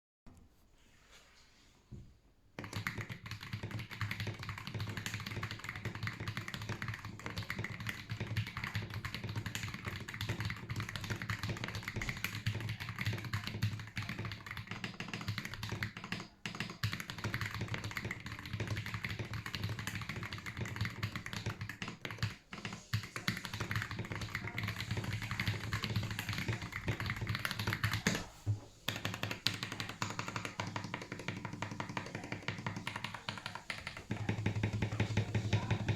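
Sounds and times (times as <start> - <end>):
mechanical keyboard typing: 2.6 - 28.3, 28.9 - 35.9.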